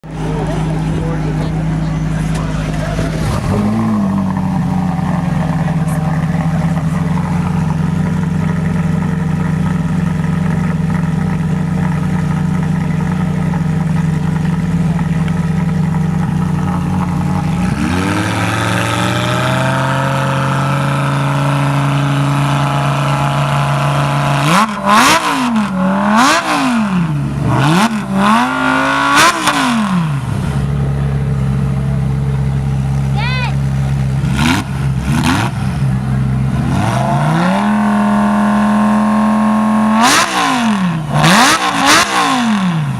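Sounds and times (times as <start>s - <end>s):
sports car engine idling and revving: 0.0s - 42.9s.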